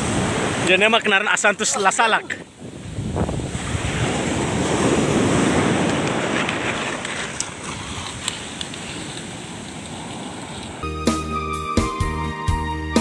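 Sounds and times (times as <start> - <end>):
surf washing up beach: 0.0 - 10.8
wind buffeting microphone: 0.0 - 10.8.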